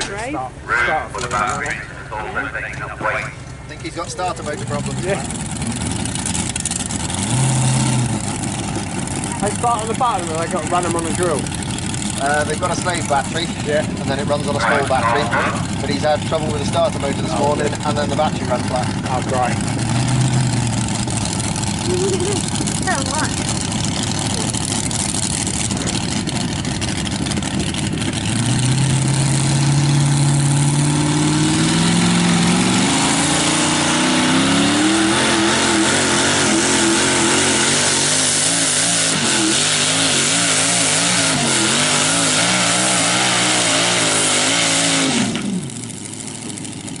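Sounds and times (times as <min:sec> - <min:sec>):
tractor engine revving: 0:00.0 - 0:47.0.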